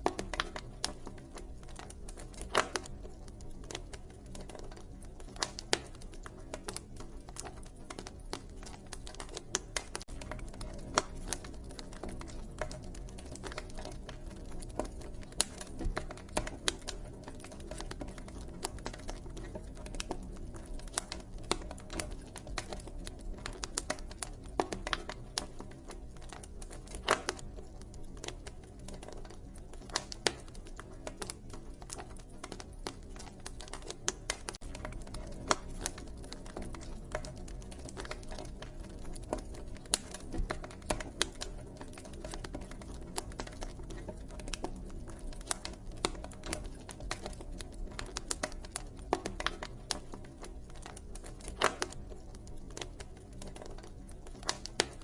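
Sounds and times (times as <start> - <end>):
wood fire snaps and pops: 0.0 - 55.0.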